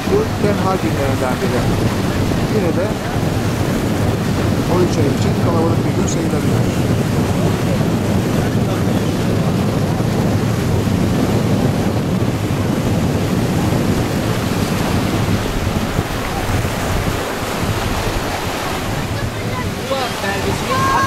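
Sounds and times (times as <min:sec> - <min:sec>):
small waves breaking: 0:00.0 - 0:21.0
wind buffeting microphone: 0:00.0 - 0:21.0.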